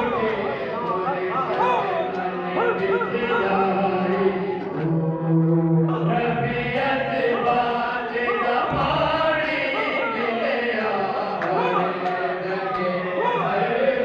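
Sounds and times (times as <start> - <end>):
men chanting together: 0.0 - 5.2, 5.8 - 14.0.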